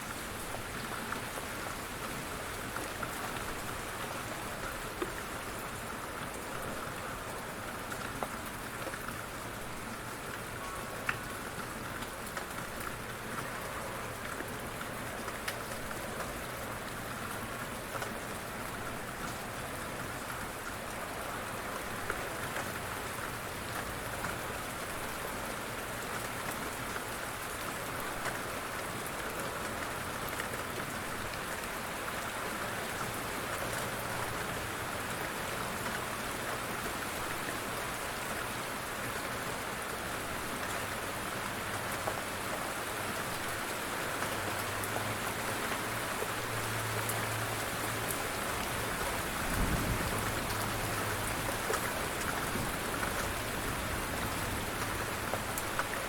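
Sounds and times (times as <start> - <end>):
rain patter with ticking drops: 0.0 - 56.0.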